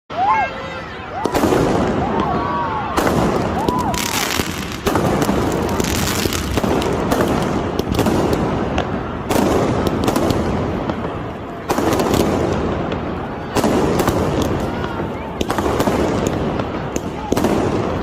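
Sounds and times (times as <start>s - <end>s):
fireworks bangs: 1.1s - 18.0s
fireworks crackling: 1.1s - 18.0s.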